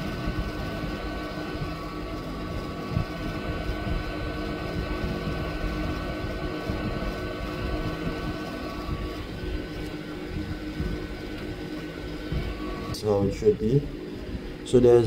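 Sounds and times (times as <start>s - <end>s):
fan whine: 0.0s - 15.0s
hot air blowing: 0.0s - 15.0s.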